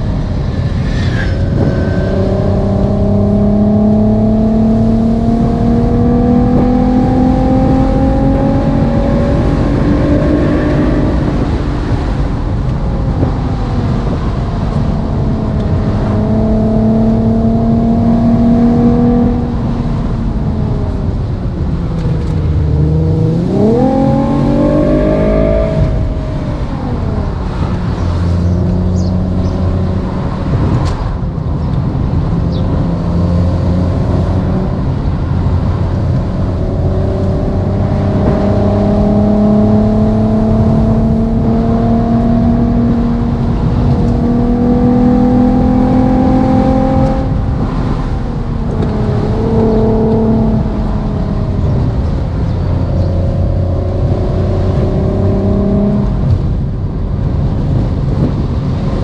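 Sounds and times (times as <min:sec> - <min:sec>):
simulated sports car engine revving: 0:00.0 - 0:59.0.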